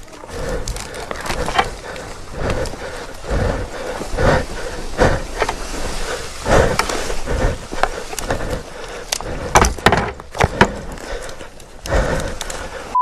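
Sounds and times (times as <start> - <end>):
footsteps scrambling over dirt: 0.0 - 12.9.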